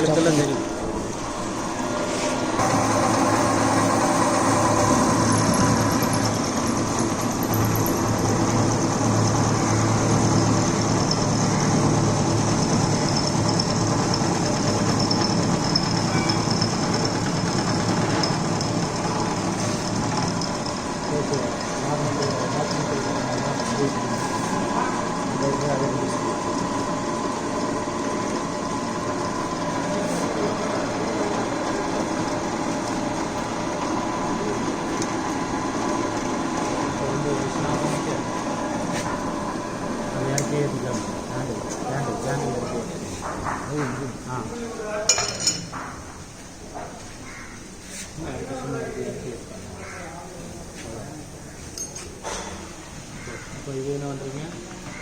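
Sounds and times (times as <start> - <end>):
milling machine humming: 0.0 - 45.0.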